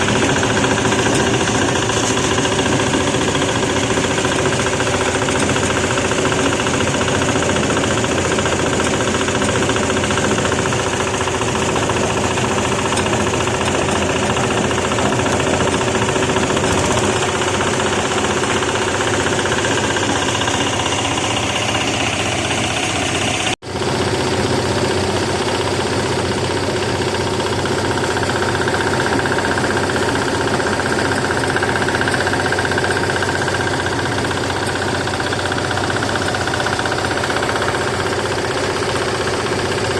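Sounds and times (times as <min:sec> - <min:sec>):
sorting machine mechanical drone: 0:00.0 - 0:39.9.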